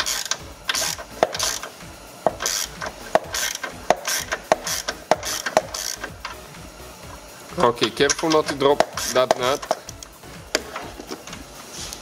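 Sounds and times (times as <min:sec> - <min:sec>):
ratchet wrench clicking: 0:00.0 - 0:06.4, 0:07.6 - 0:10.9.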